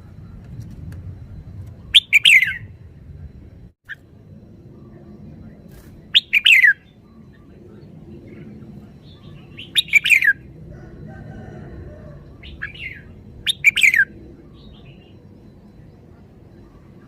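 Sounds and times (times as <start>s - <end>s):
bird singing sliding notes: 1.2s - 17.0s.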